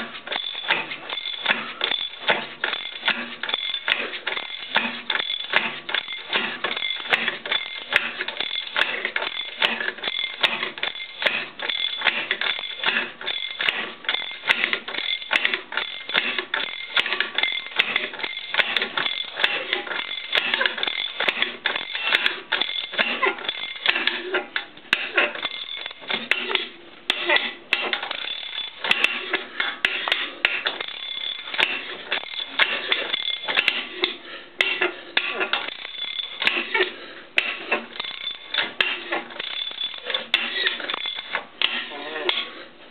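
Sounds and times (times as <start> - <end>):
spanner clicking and creaking on nut: 0.0 - 42.6.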